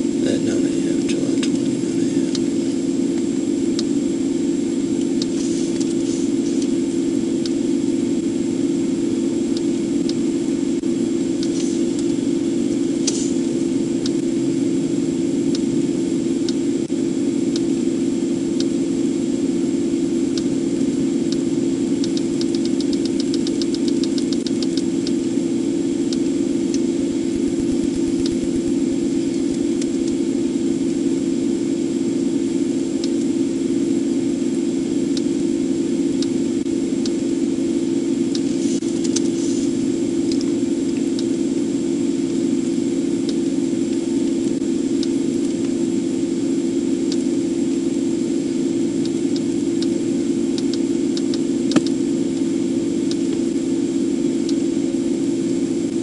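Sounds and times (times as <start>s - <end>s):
engine fan running: 0.0s - 56.0s.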